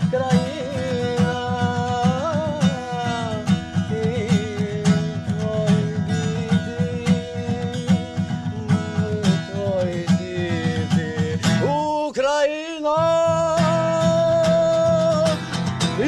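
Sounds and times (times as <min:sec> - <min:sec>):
acoustic guitar strumming: 0:00.0 - 0:16.0
person singing: 0:00.0 - 0:16.0.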